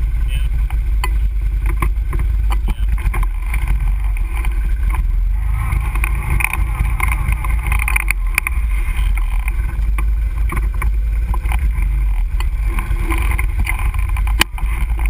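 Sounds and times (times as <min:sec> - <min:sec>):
atv engine running: 0:00.0 - 0:15.0
wind rumble on microphone: 0:00.0 - 0:15.0
knocks from rough ground: 0:00.7 - 0:15.0.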